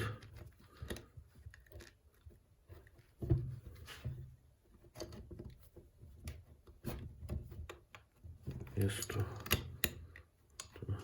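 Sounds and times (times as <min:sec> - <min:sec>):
small parts clicking and knocking: 0:00.0 - 0:03.5, 0:04.6 - 0:11.0.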